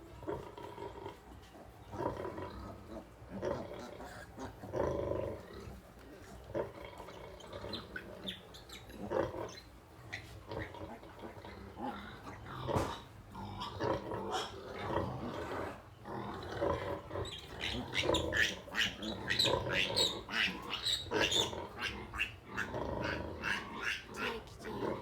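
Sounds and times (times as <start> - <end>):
pigs grunting and squealing: 0.0 - 25.0.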